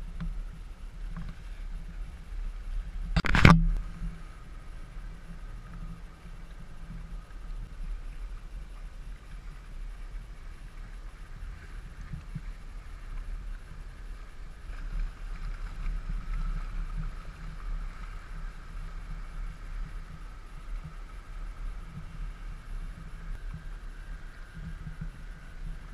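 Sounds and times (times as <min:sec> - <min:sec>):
wind rumble on microphone: 0:00.0 - 0:25.9.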